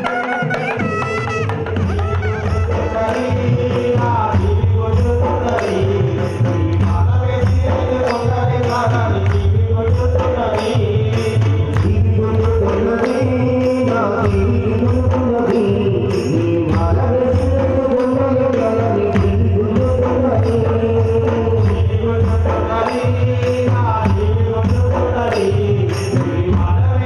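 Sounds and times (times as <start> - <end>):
devotional music with beat: 0.0 - 27.0.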